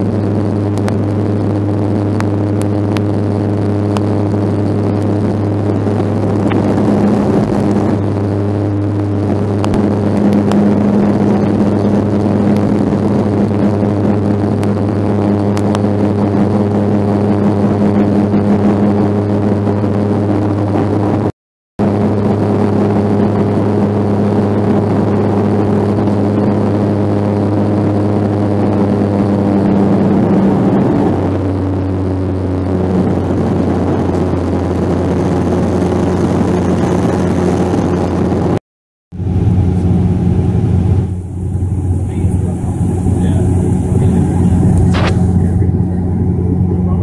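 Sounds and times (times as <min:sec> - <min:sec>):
propeller drone in cabin: 0:00.0 - 0:47.0.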